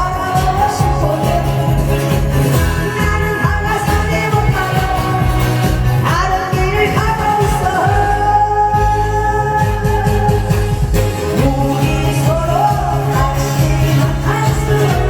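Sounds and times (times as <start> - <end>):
loud music with steady beat: 0.0 - 15.0
person singing: 0.0 - 15.0.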